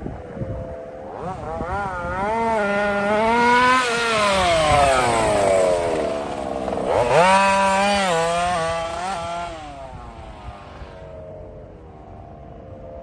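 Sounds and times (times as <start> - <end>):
small engine revving: 0.4 - 11.4.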